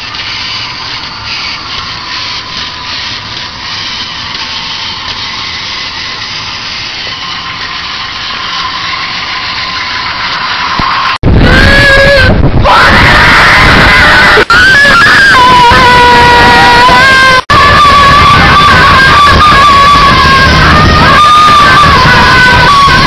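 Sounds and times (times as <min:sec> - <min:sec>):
roller coaster car on track: 0:00.0 - 0:23.0.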